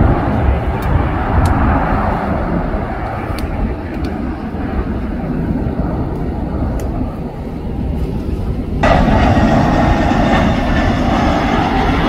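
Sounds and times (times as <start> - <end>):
distant jet engines rumbling: 0.0 - 12.0
jet engines passing close: 0.0 - 12.0.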